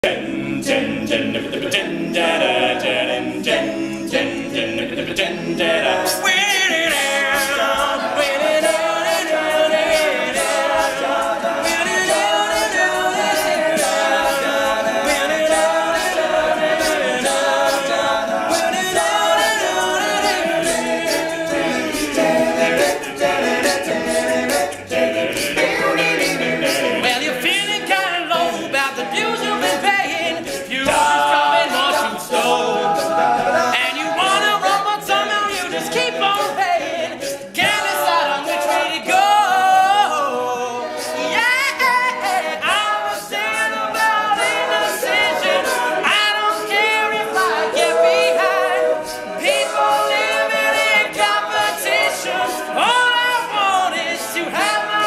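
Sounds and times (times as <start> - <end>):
men singing a cappella: 0.0 - 55.0.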